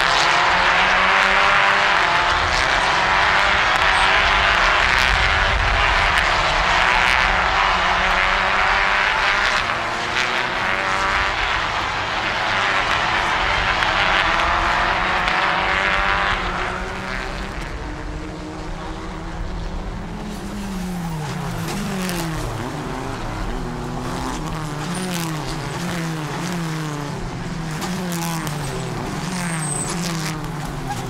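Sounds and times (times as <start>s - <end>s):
race car engines revving: 0.0s - 31.0s
race car passing close: 0.0s - 31.0s.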